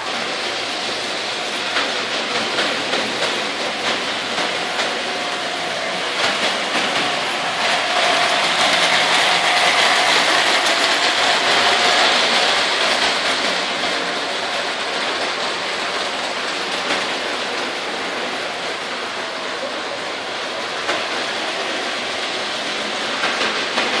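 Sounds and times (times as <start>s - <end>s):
toy train rolling rumble: 0.0s - 24.0s.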